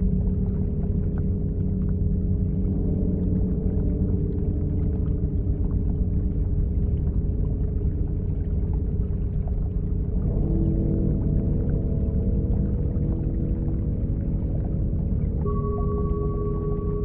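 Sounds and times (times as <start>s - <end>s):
deep rumbling drone: 0.0s - 17.0s
sustained low tones: 0.0s - 17.0s.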